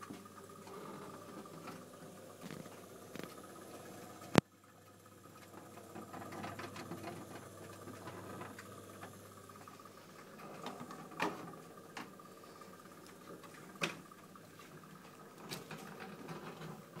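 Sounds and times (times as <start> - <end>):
motor whirring hum: 0.0 - 17.0.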